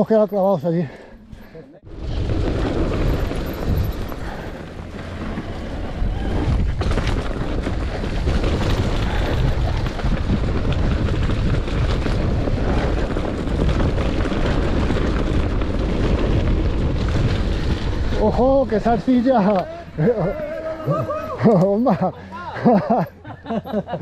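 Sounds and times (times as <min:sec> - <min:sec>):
mountain bike rumble and rattle: 0:00.0 - 0:24.0
wind buffeting microphone: 0:01.8 - 0:22.8.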